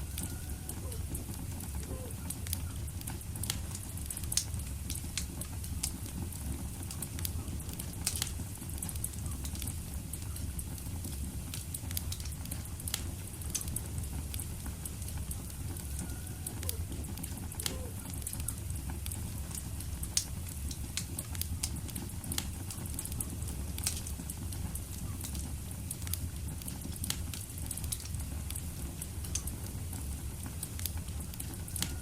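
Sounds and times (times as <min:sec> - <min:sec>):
fire burning with crackles: 0:00.0 - 0:32.0.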